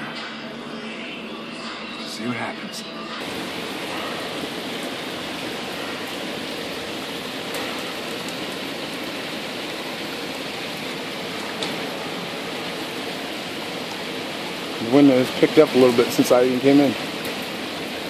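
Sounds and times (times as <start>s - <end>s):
raindrop ticks: 3.2s - 18.0s
steady rain hiss: 3.2s - 18.0s.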